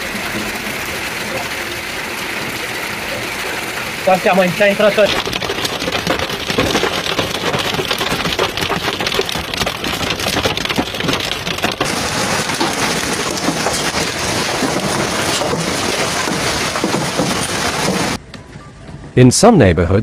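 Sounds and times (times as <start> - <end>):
hail and rain pelting surfaces: 0.0 - 18.2.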